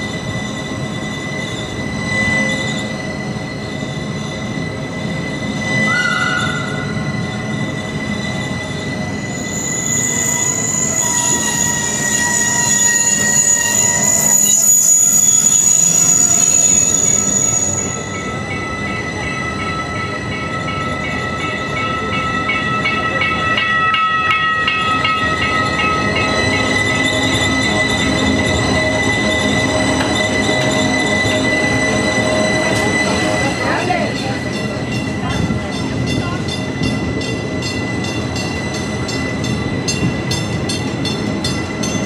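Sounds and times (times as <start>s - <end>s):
train rolling rumble: 0.0s - 42.0s
train wheels squealing: 0.0s - 42.0s.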